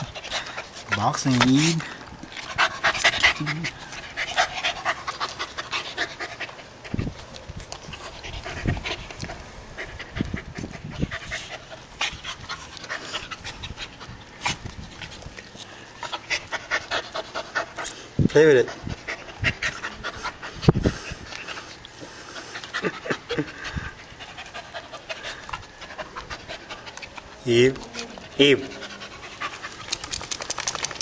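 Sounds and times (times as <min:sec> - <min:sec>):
dog panting: 0:00.0 - 0:07.2, 0:07.9 - 0:31.0.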